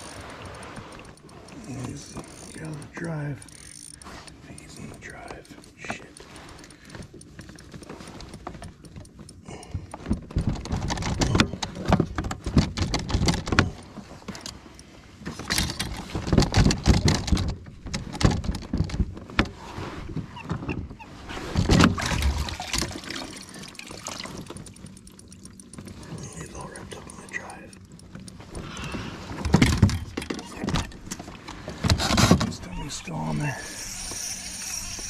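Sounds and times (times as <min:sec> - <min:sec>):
tackle clicking and knocking: 0:00.0 - 0:19.6, 0:20.2 - 0:35.0.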